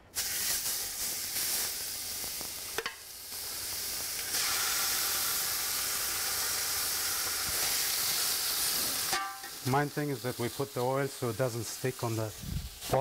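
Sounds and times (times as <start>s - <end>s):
meat sizzling in hot oil: 0.1s - 13.0s.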